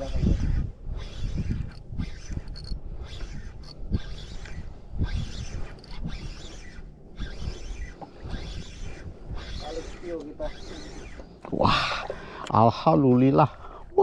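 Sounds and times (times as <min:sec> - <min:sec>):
fishing reel creaking and clicking: 0:00.0 - 0:11.5.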